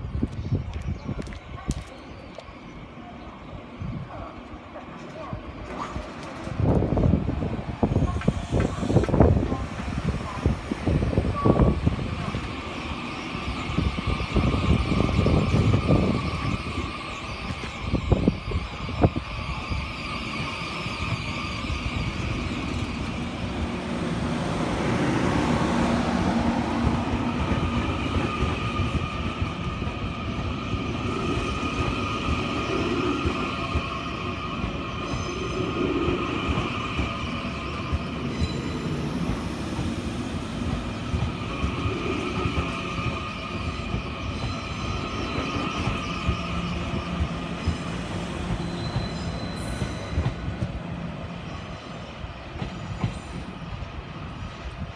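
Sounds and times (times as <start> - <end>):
train cars rumbling: 0.0 - 54.9
high-pitched train whine: 5.2 - 54.9.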